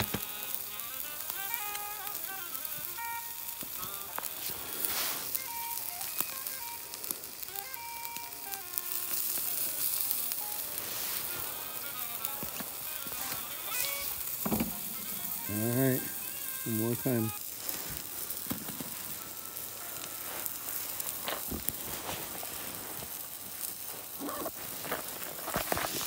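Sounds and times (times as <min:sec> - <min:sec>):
background music melody: 0:00.0 - 0:21.4
steak sizzling on grill: 0:00.0 - 0:26.0.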